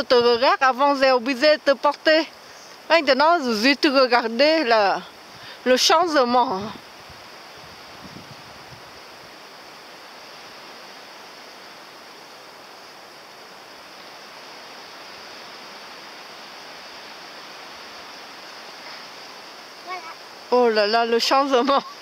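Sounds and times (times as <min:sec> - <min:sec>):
outdoor rushing hiss: 0:00.0 - 0:22.0.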